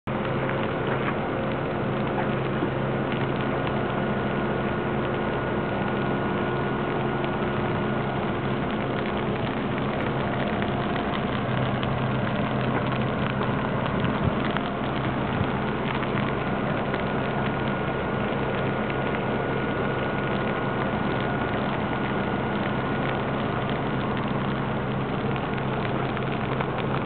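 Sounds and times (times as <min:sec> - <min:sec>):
vehicle engine idling: 0:00.0 - 0:27.0
dry grass crackling and popping: 0:00.1 - 0:27.0.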